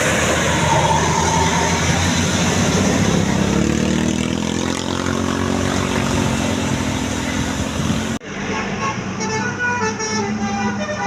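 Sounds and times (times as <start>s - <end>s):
bus engine revving: 0.0s - 11.0s.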